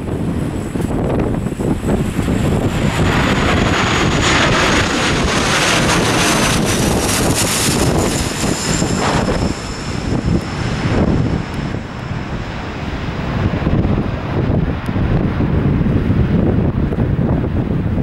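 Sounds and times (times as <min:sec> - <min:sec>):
turboprop airliner passing overhead: 0:00.0 - 0:18.0
wind buffeting microphone: 0:00.0 - 0:18.0
high engine whine: 0:00.1 - 0:15.0.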